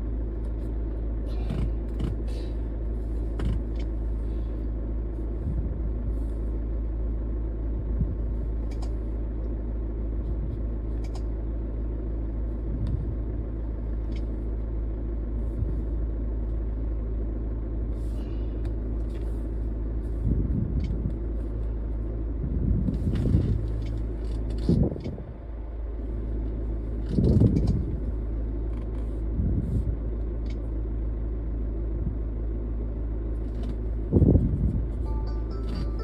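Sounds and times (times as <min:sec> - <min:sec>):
low rumble inside car: 0:00.0 - 0:36.0.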